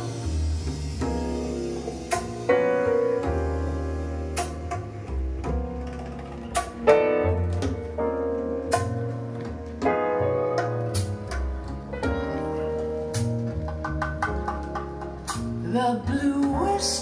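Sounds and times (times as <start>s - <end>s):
instrumental music over loudspeakers: 0.0s - 17.0s.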